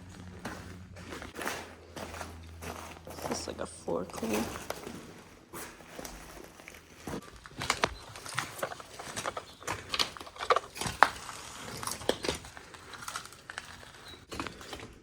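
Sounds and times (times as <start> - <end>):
footsteps crunching over debris: 0.0 - 15.0.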